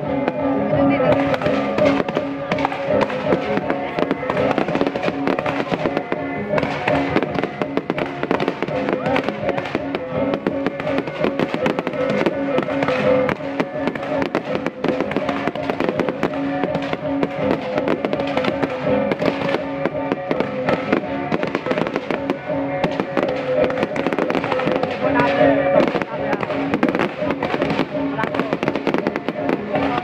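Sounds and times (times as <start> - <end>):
fireworks bursting and crackling: 0.0 - 30.0
music with long held notes: 0.0 - 30.0.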